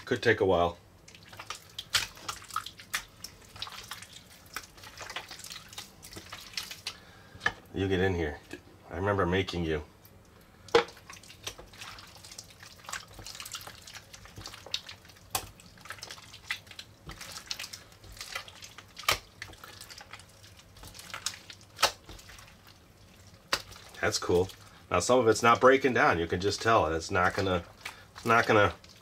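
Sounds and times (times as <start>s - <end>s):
wet sticky slime squelching: 0.0s - 8.7s, 9.4s - 29.0s.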